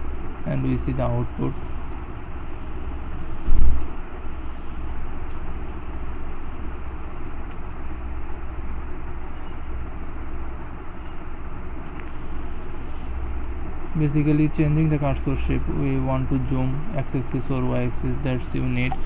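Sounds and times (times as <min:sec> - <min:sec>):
low rumble with hiss: 0:00.0 - 0:19.0.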